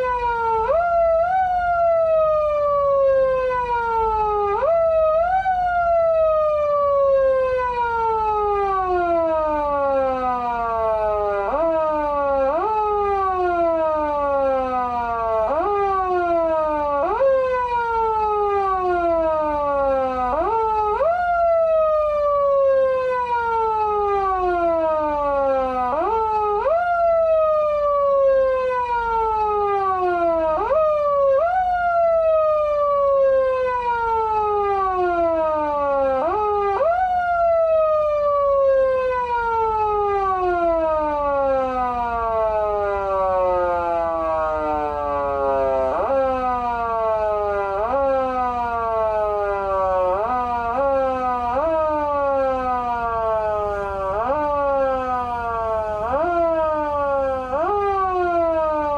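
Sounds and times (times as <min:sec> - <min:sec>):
siren wail rising and falling: 0:00.0 - 0:58.9.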